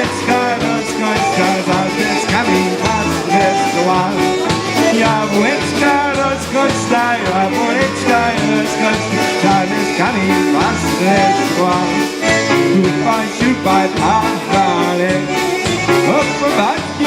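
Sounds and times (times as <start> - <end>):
polka band playing: 0.0 - 17.0.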